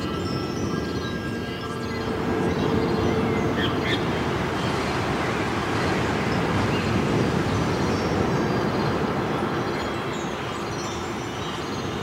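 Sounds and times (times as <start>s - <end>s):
ambient synthesizer drone: 0.0s - 12.0s.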